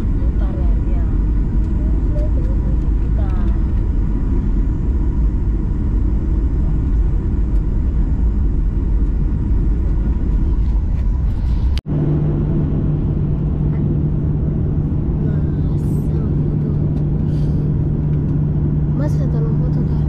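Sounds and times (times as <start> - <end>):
airplane engines rumbling: 0.0 - 20.0
steady low hum: 0.0 - 20.0.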